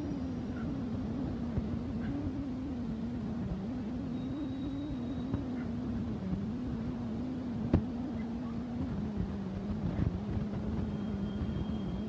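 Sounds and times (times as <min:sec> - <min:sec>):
low engine hum: 0:00.0 - 0:12.0
street noise: 0:00.0 - 0:12.0.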